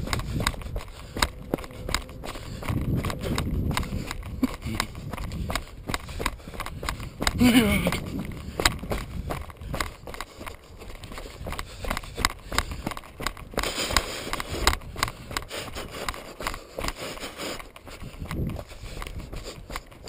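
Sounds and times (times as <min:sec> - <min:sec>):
wind rumble on microphone: 0:00.0 - 0:16.9, 0:17.6 - 0:20.0
bike rattling over stony trail: 0:00.0 - 0:20.0
tyres crunching on gravel: 0:00.0 - 0:20.0.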